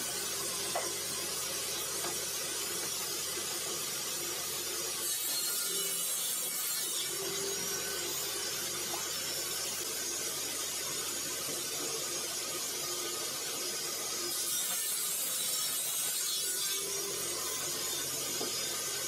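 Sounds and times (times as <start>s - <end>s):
table saw motor whirring: 0.0s - 19.0s.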